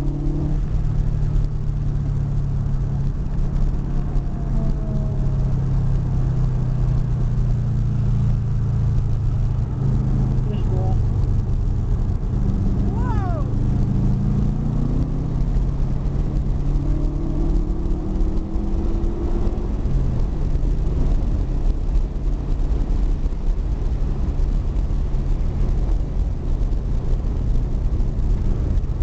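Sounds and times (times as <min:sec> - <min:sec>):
car engine running: 0:00.0 - 0:29.0
road and wind rumble: 0:00.0 - 0:29.0.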